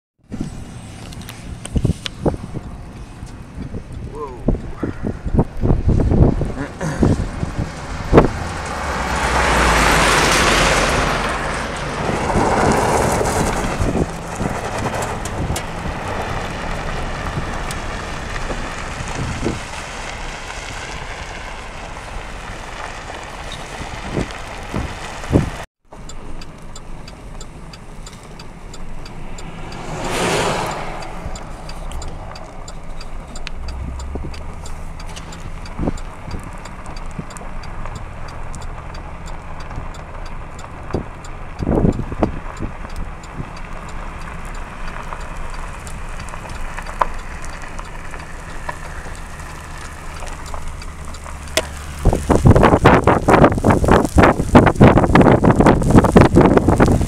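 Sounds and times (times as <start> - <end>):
wind buffeting microphone: 0.2 - 25.7, 28.9 - 57.0
vehicle engine running: 0.2 - 57.0.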